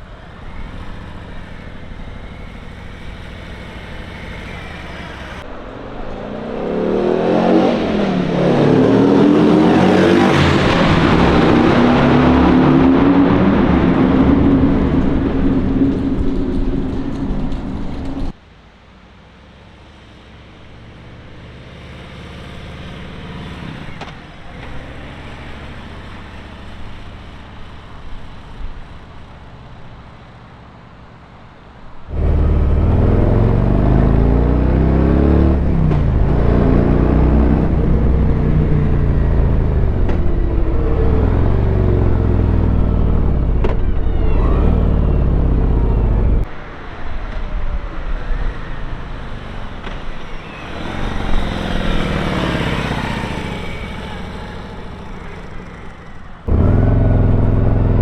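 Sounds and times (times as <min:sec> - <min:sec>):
motorcycle accelerating past: 0:00.1 - 0:18.3, 0:20.1 - 0:27.8, 0:32.1 - 0:46.5, 0:48.4 - 0:58.0.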